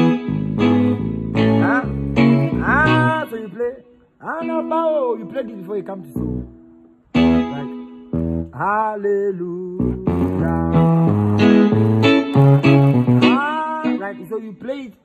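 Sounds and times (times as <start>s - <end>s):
keyboard melody and bass notes: 0.0s - 15.0s.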